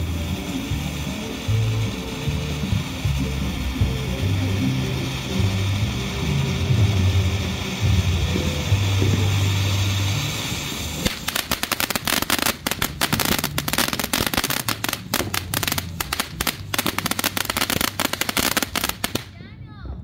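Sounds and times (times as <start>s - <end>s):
firework crackling: 0.0s - 19.5s.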